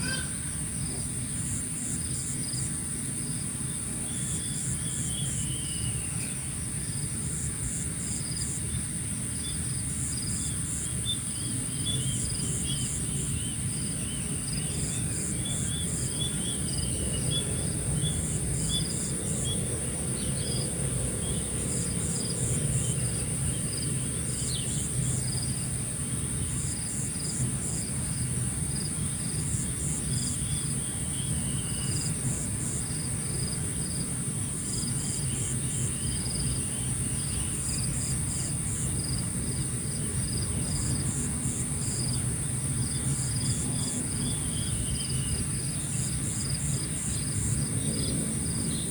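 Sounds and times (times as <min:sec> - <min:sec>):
cricket chirps: 0:00.0 - 0:48.9
insects droning high-pitched: 0:00.0 - 0:48.9.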